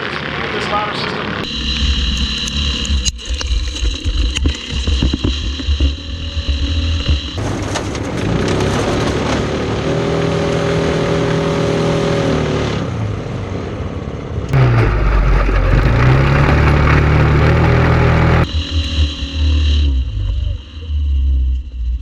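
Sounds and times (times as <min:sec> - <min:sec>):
race-car engines revving: 0:00.0 - 0:21.7.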